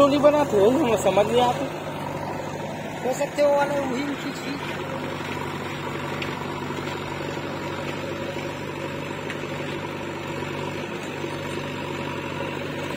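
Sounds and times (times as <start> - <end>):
tractor diesel engine drone: 0.0 - 12.9.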